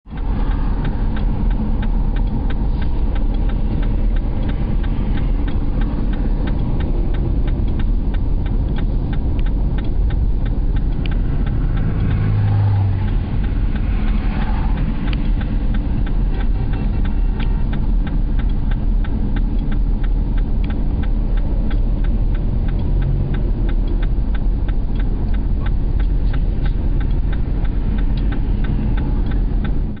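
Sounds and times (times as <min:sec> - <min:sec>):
vehicle road and engine rumble: 0:00.0 - 0:30.0
fast faint ticking: 0:00.1 - 0:30.0.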